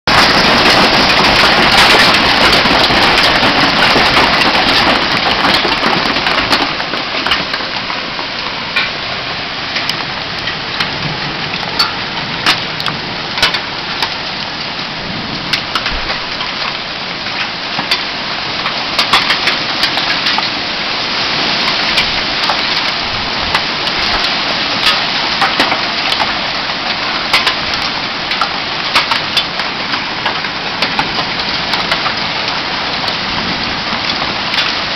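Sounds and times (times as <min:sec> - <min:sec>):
hail and rain pelting down: 0:00.1 - 0:34.9
hailstones clicking on hard surfaces: 0:00.1 - 0:34.9.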